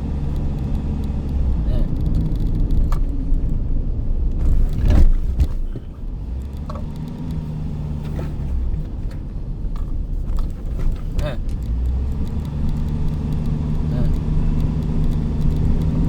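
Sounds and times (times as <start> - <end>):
car rumbling on road: 0.0 - 16.0.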